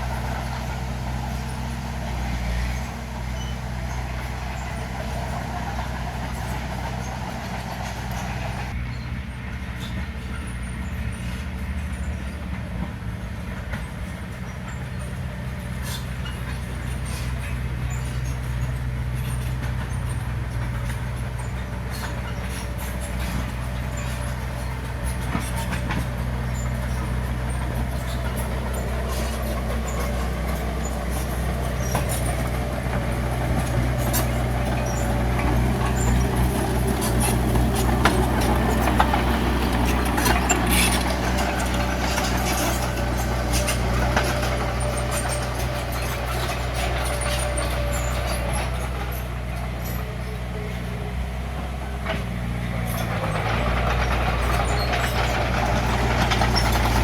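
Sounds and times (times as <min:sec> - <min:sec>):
bulldozer diesel engine: 0:00.0 - 0:57.0
machine clanking and rattling: 0:09.7 - 0:57.0.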